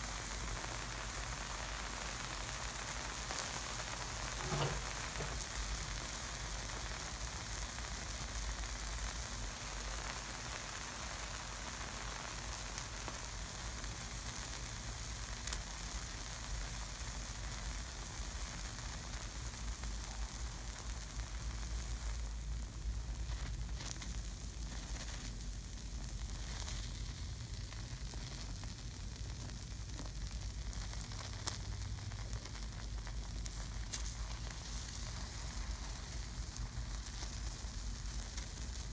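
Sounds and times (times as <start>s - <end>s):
acid sizzling: 0.0s - 38.9s
faint crackles: 0.0s - 38.9s.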